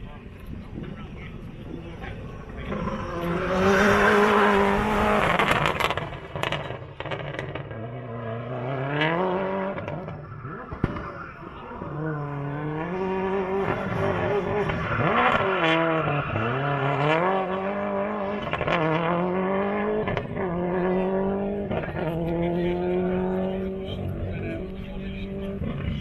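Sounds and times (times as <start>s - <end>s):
car engine revving: 0.4s - 26.0s.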